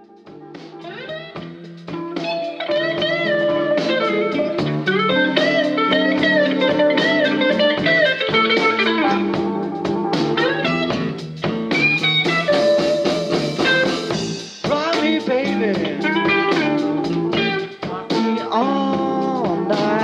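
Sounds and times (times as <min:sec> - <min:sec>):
blues band playing live: 0:00.0 - 0:20.0
lead guitar bent notes: 0:00.6 - 0:20.0.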